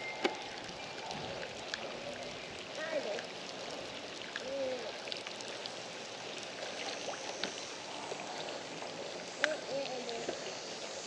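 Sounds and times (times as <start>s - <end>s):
moving river water: 0.0s - 11.0s.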